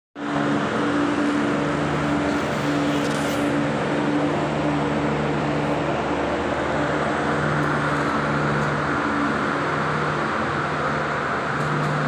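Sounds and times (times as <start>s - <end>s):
ice resurfacing machine humming: 0.2s - 12.0s.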